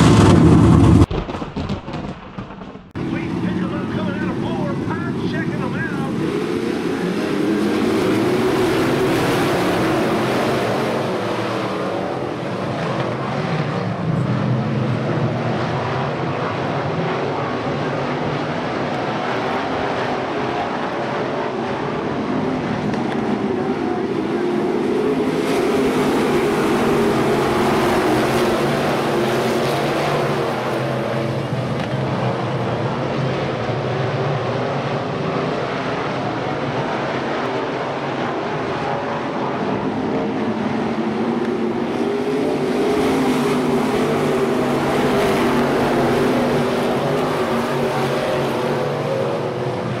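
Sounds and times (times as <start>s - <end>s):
race car engines: 0.0s - 1.1s, 2.9s - 50.0s.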